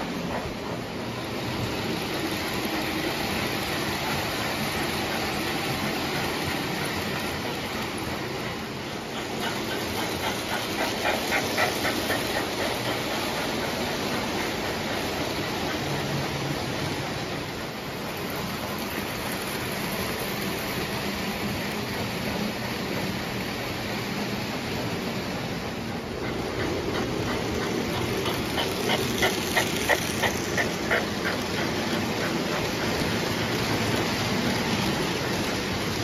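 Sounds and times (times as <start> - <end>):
clicking of passing train cars: 0.0 - 36.0
toy trains rumbling on track: 0.0 - 36.0.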